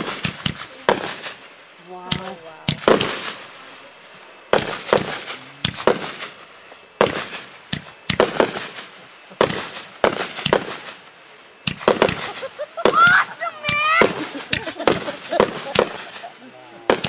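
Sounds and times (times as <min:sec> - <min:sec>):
fireworks bangs with echo: 0:00.0 - 0:03.8, 0:04.5 - 0:17.0.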